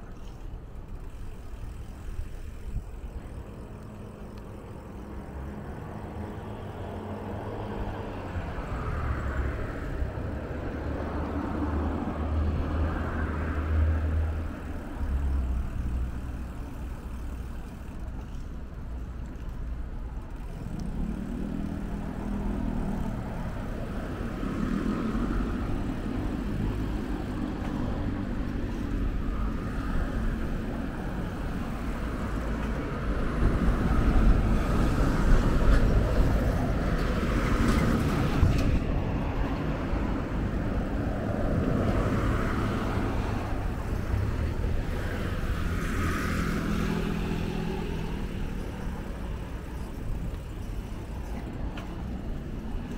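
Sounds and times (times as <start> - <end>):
cars passing with tyre hiss: 0.0 - 52.9.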